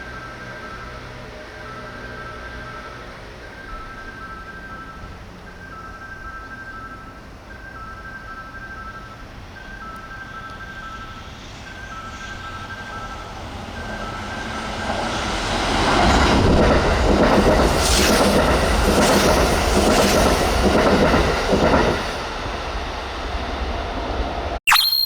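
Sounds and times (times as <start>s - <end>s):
train rumbling by: 0.0s - 24.6s.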